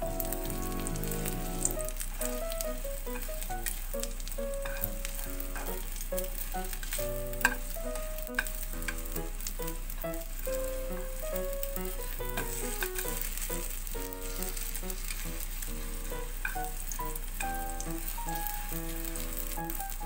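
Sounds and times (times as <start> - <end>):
chopsticks stirring: 0.0 - 20.0
rice cakes sizzling in a pan: 0.0 - 20.0.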